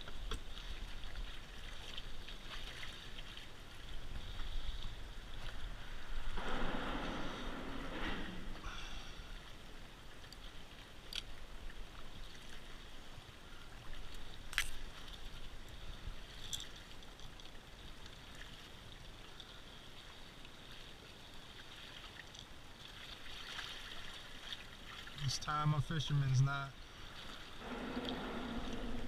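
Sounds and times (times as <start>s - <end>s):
water lapping against a hull: 0.0s - 29.0s.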